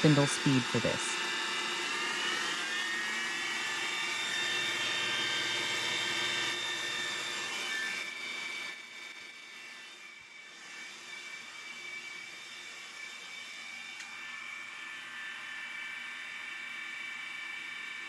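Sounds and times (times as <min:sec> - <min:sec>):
router spindle high whine: 0:00.0 - 0:18.0.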